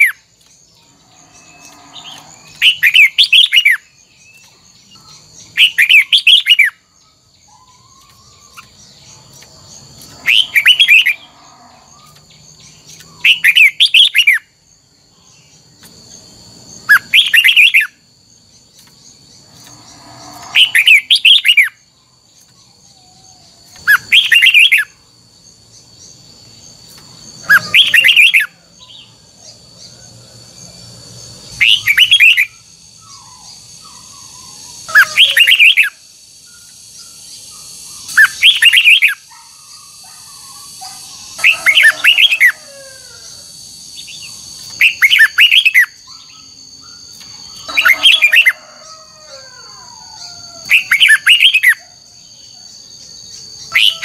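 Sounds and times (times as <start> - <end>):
bird singing warbled phrases: 0.0 - 25.1, 25.7 - 30.2, 31.3 - 42.7, 43.9 - 54.0.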